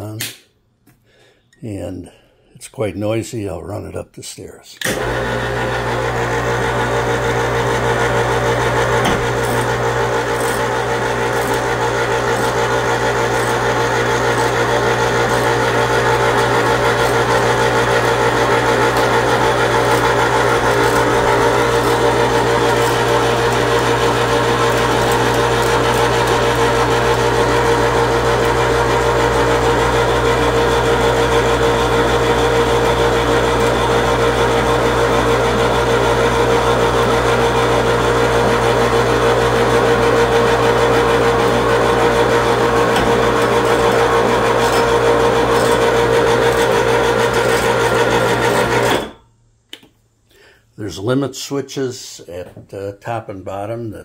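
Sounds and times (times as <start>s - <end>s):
electric hoist motor whine: 4.8s - 49.2s.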